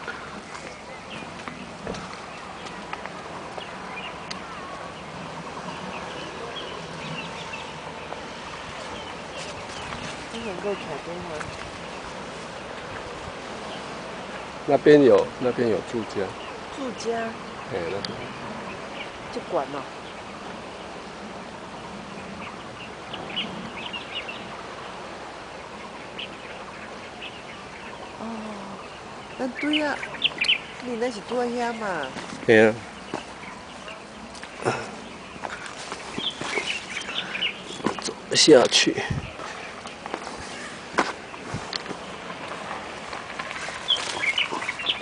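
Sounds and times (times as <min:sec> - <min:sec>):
birds chirping: 0:00.0 - 0:45.0
outdoor background hiss: 0:00.0 - 0:45.0.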